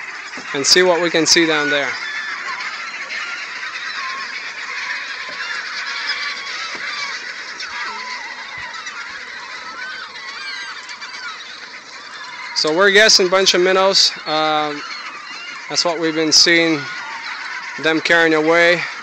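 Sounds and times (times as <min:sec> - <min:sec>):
gulls calling: 0:00.0 - 0:19.0.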